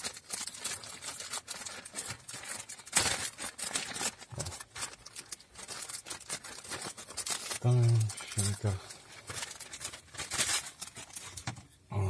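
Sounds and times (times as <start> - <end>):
plastic film crinkling and tearing: 0.0 - 11.8
plastic film ripping: 0.0 - 11.8.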